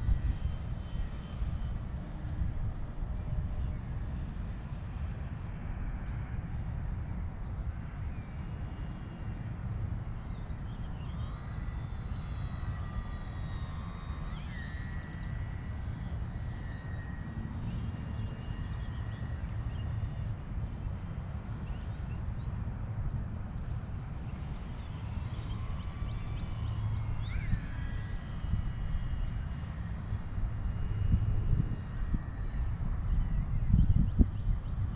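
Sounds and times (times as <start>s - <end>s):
model airplane motor whining: 0.0s - 5.1s, 7.6s - 34.9s.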